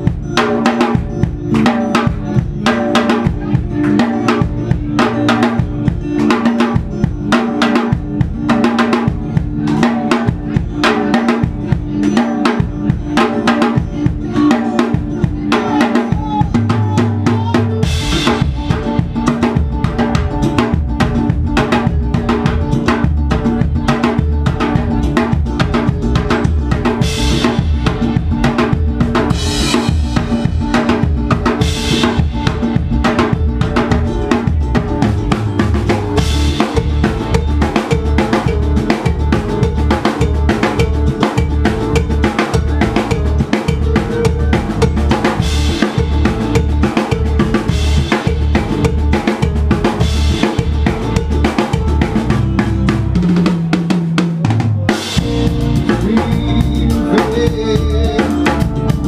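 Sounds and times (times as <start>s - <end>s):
drum kit beat: 0.0s - 59.0s
electric bass: 0.0s - 59.0s
keyboards: 0.0s - 59.0s.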